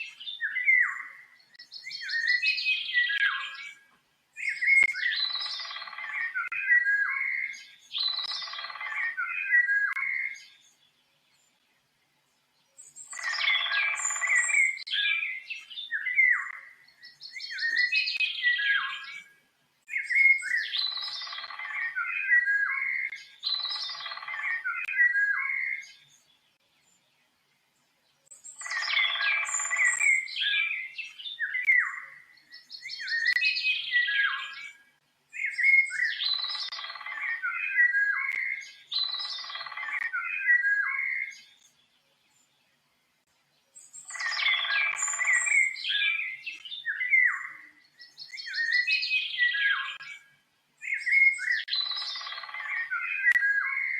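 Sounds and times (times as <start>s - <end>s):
songbird warbling: 0.0s - 10.6s, 12.7s - 19.3s, 19.9s - 26.1s, 28.3s - 41.6s, 43.8s - 50.2s, 50.8s - 53.9s.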